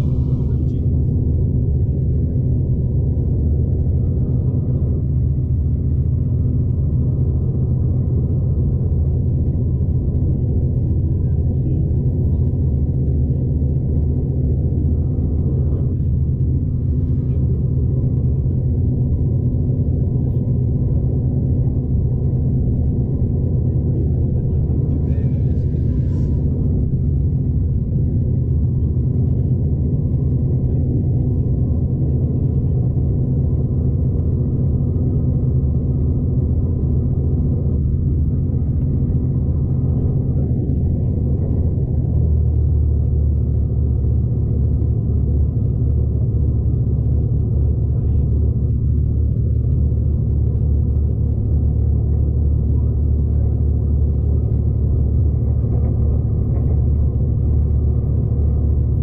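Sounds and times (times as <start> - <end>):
train rumbling inside carriage: 0.0 - 59.0.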